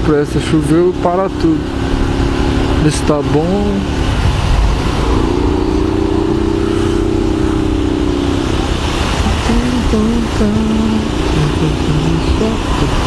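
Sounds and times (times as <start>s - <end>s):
motorcycle road rumble: 0.0s - 13.0s
wind: 0.0s - 13.0s.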